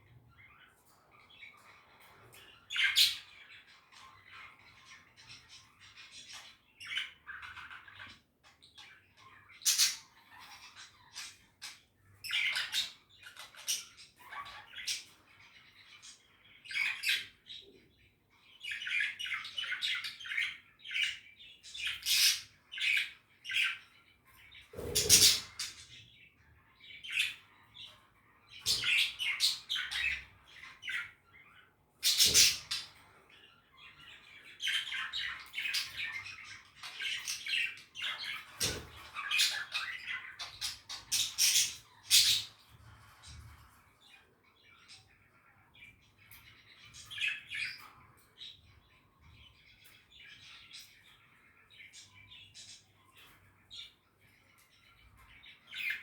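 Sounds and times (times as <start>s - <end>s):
budgies chattering and chirping: 0.0s - 56.0s.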